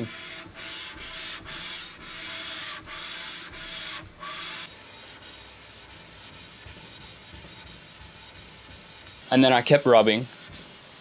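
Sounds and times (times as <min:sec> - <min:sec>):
metal rubbing on metal: 0:00.0 - 0:11.0.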